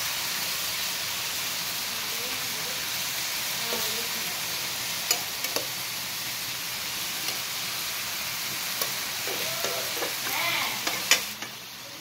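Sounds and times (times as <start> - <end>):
greens sizzling in a pan: 0.0 - 12.0.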